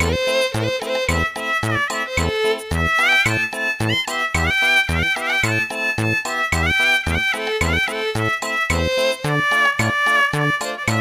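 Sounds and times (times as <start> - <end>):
bouncy background music: 0.0 - 11.0.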